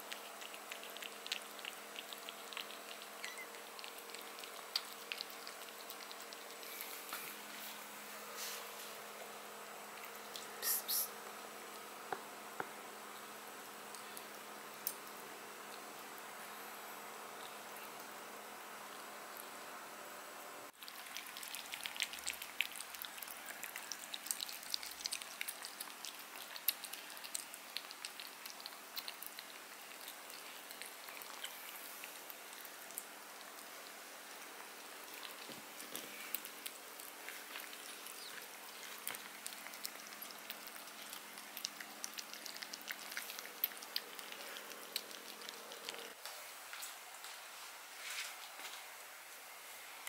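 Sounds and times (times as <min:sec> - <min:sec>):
cats chewing and licking: 0:00.0 - 0:10.6, 0:11.2 - 0:19.7, 0:20.7 - 0:48.9.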